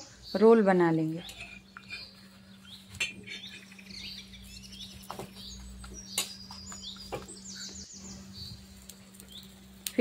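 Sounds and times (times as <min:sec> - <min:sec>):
small birds chirping: 0:00.0 - 0:10.0
steady low hum: 0:00.0 - 0:10.0.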